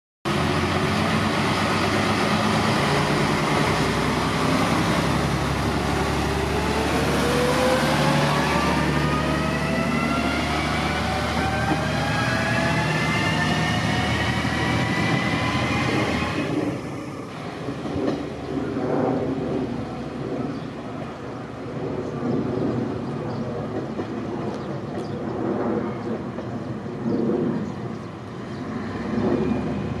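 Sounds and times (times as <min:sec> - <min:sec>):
diesel railcar engine whine: 0:00.3 - 0:30.0
train rumble: 0:00.3 - 0:30.0.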